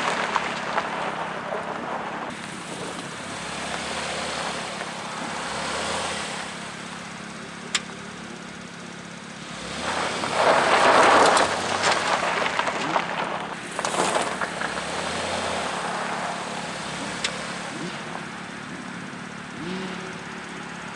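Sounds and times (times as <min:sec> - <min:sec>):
car engine running: 0:00.0 - 0:20.9
tyres crunching over loose ground: 0:00.0 - 0:20.9.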